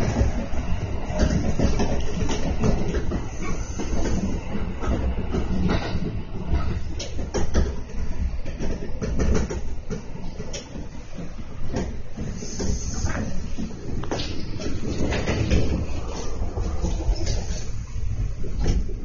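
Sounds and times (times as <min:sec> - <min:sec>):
train wheels rumbling on rail: 0:00.0 - 0:19.0
wheels clacking over rail joints: 0:00.0 - 0:19.0.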